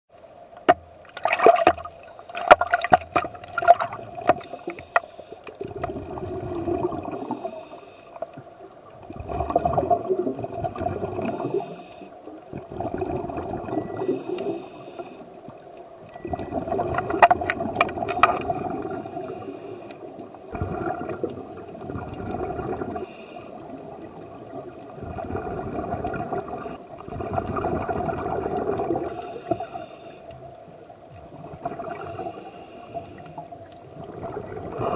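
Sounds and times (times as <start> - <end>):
underwater gurgling and bubbling: 0.7 - 34.9.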